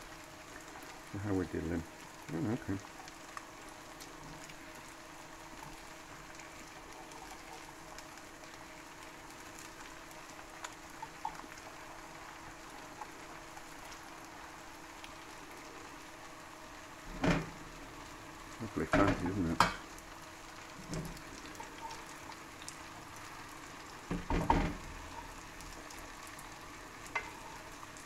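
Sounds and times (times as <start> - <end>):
cheese and batter sizzling in pan: 0.0 - 28.0
faint steady hum: 0.0 - 28.0.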